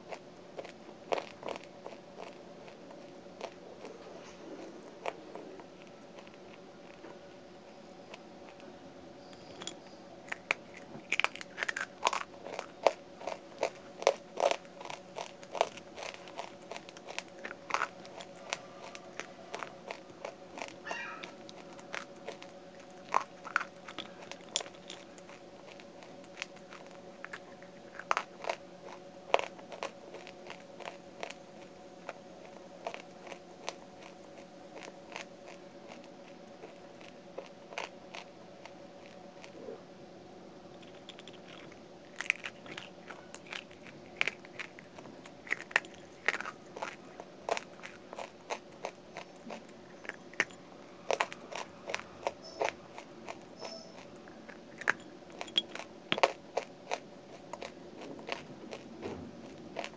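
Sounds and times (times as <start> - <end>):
teeth crunching dry clay: 0.0 - 39.7, 40.7 - 59.9.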